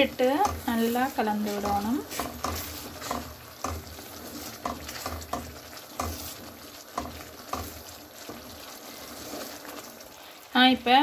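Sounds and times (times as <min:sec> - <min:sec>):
wooden spoon scraping pan: 0:00.0 - 0:10.0
hot mixture bubbling: 0:00.0 - 0:11.0.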